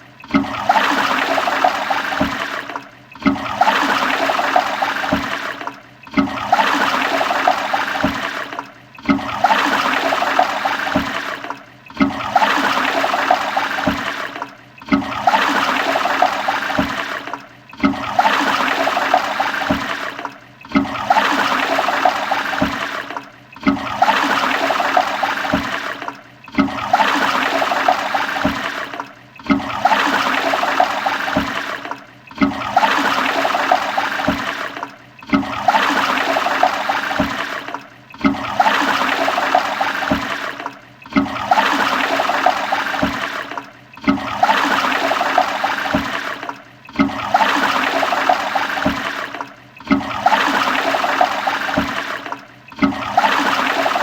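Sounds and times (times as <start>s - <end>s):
toilet flushing: 0.0s - 54.0s.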